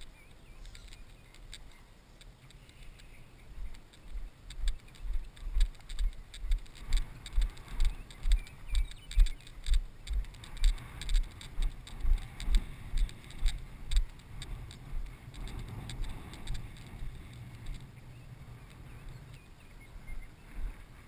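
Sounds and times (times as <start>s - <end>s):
walking footsteps: 0.0s - 21.0s.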